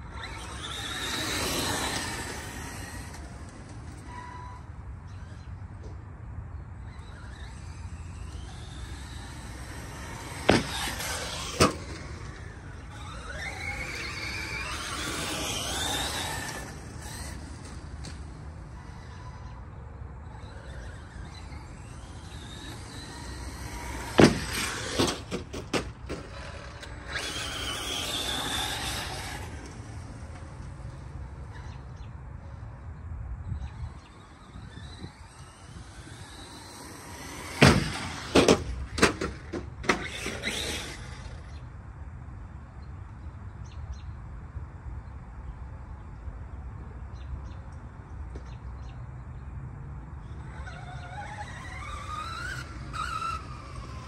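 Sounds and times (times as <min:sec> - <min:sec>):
toy truck motor whine: 0:00.0 - 0:05.9, 0:06.8 - 0:32.6, 0:33.5 - 0:41.7, 0:50.2 - 0:54.0.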